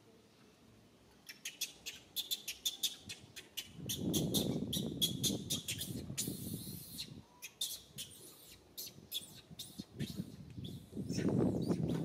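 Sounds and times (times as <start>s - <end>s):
small birds chirping: 1.1s - 12.0s.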